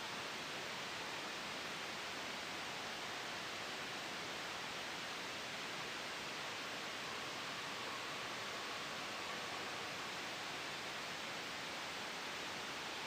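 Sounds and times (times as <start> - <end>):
white noise hiss: 0.0 - 13.0.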